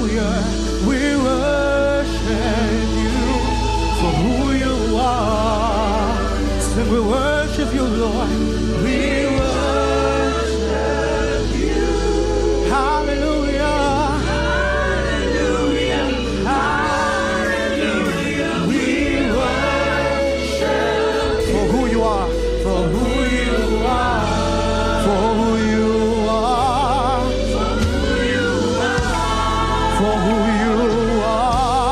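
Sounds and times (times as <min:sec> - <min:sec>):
band playing gospel music: 0:00.0 - 0:31.9
choir singing: 0:00.0 - 0:31.9.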